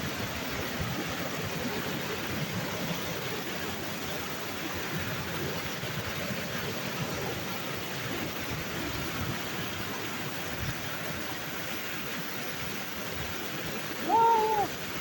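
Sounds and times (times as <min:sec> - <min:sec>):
waterfall splashing: 0:00.0 - 0:15.0.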